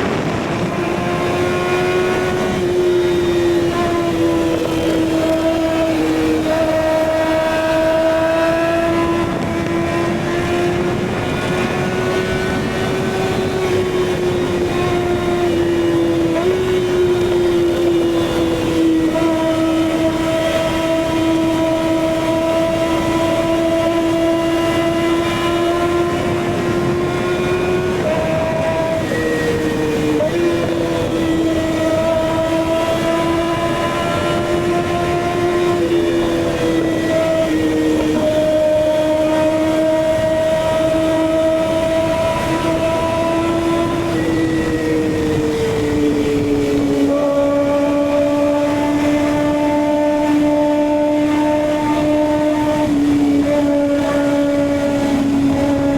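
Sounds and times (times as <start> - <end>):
motorcycle engine at high revs: 0.0 - 55.9.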